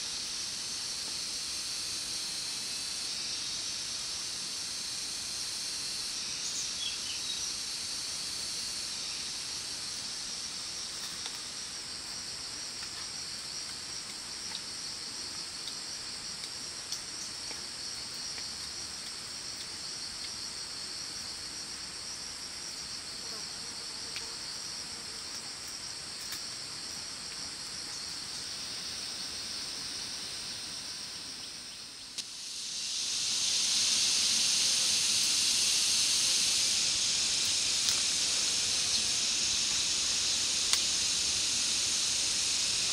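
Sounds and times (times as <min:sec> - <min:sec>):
shrill insect chorus: 0:00.0 - 0:42.9.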